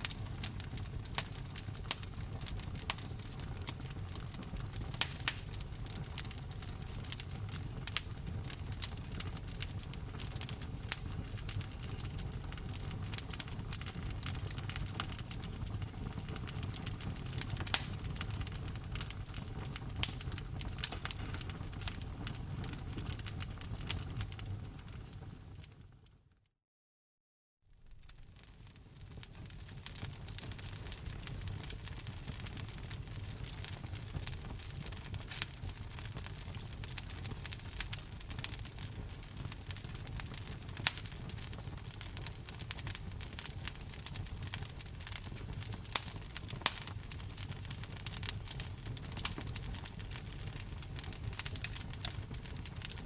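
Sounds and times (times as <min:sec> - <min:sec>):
low rumble of burning logs: 0:00.0 - 0:26.0, 0:27.8 - 0:53.0
wood fire crackling and popping: 0:00.0 - 0:26.0, 0:27.8 - 0:53.0.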